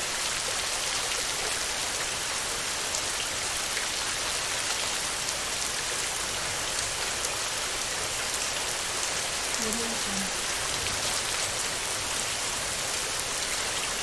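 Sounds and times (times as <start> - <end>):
heavy rain on a tin roof: 0.0 - 14.0.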